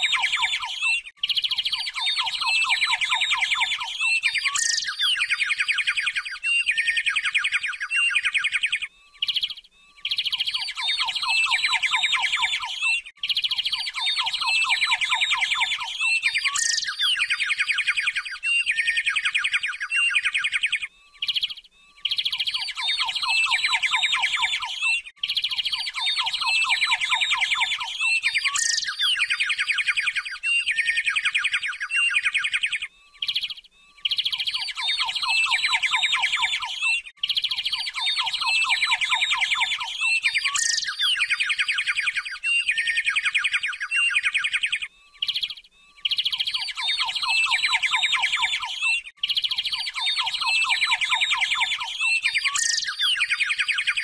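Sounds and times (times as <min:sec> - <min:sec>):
birds chirping and trilling: 0:00.0 - 0:54.0
high falling bird whistle: 0:00.0 - 0:54.0.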